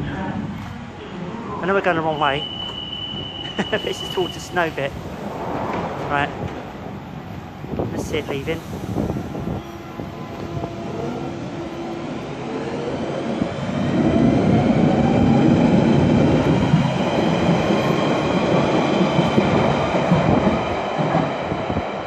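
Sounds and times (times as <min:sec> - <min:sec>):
train running noise: 0:02.1 - 0:22.0.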